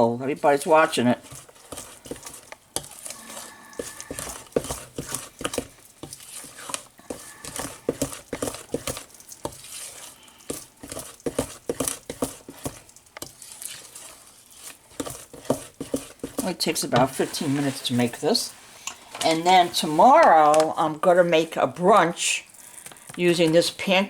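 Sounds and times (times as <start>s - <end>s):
batter stirred in bowl: 0.2s - 24.0s.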